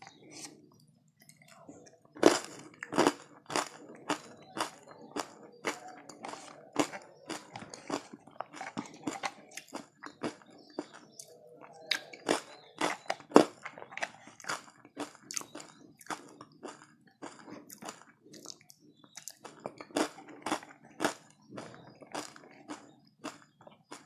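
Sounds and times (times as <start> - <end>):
chewing crunchy food: 0.0 - 24.0.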